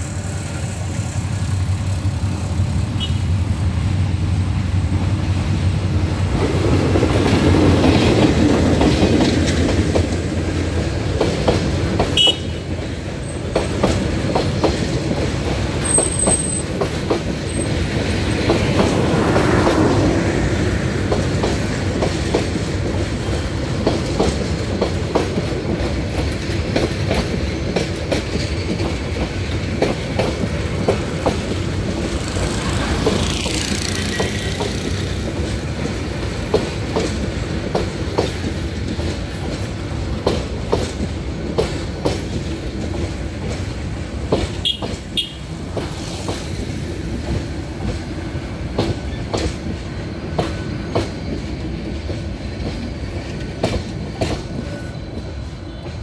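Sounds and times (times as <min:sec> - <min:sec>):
train passing with rumble: 0:00.0 - 0:56.0
wheels clacking over rail joints: 0:06.3 - 0:56.0.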